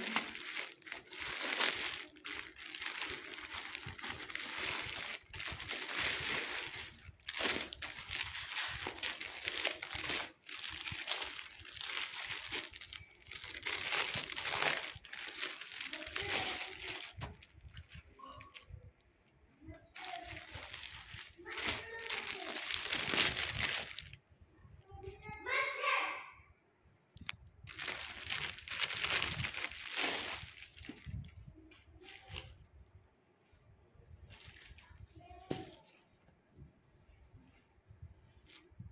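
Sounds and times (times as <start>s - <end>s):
plastic crinkling and rustling: 0.0s - 19.0s, 19.6s - 24.2s, 27.1s - 32.7s, 34.2s - 36.0s, 38.2s - 38.9s.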